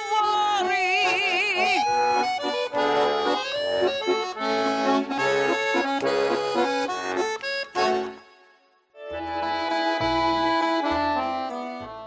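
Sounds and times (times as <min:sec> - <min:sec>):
accordion playing folk music: 0:00.0 - 0:12.0.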